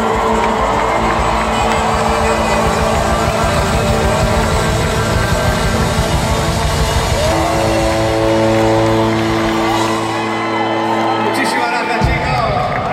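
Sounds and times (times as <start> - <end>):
rock band playing live: 0.0 - 12.9.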